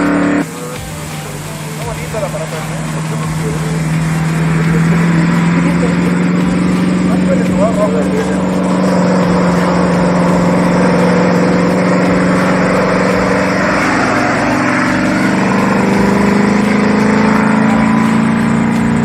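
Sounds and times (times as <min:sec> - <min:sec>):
vehicle engine running: 0:00.0 - 0:19.0
wind or tyre hiss: 0:00.0 - 0:19.0.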